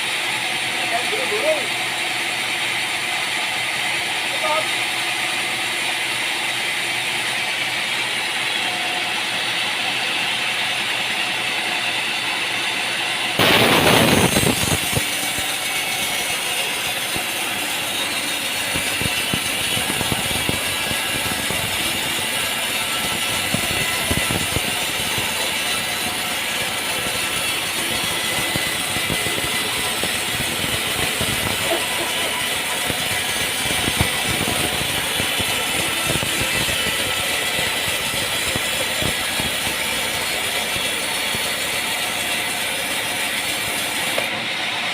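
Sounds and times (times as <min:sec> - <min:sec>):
machine engine running: 0:00.0 - 0:44.4.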